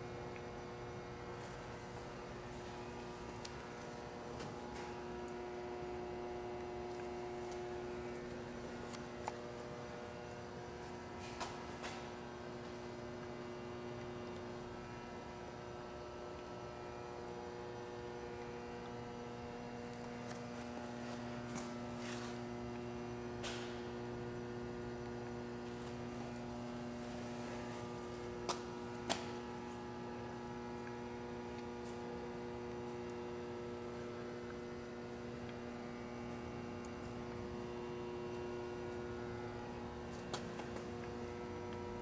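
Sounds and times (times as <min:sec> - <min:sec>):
electric motors humming: 0:00.0 - 0:42.0.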